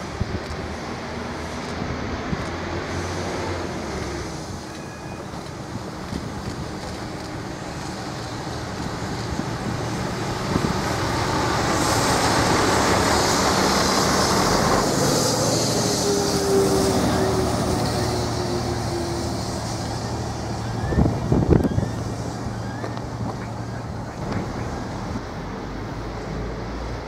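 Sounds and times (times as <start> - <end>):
wheel-on-rail noise: 0.0 - 27.0
diesel engine running: 0.1 - 26.8.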